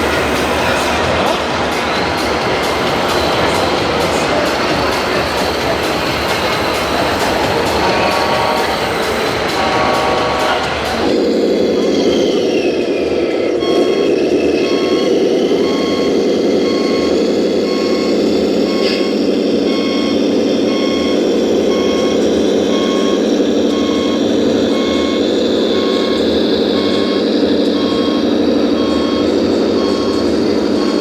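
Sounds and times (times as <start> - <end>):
reversing beeper: 0.0 - 31.0
toy truck engine sound: 0.0 - 31.0.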